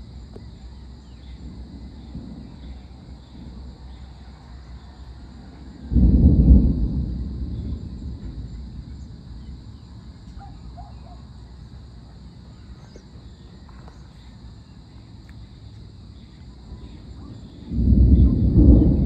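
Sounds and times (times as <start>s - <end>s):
distant thunder rumbling: 0.0s - 14.8s, 15.9s - 19.0s
faint low rumble: 0.0s - 19.0s
insect drone: 0.0s - 19.0s.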